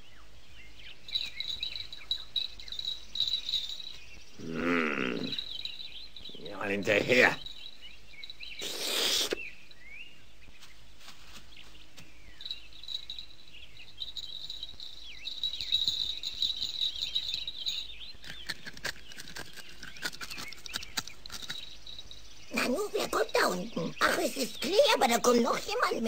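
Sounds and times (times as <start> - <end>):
birds chirping: 0.0 - 26.0
high insect-like trill: 0.9 - 9.8, 12.2 - 26.0.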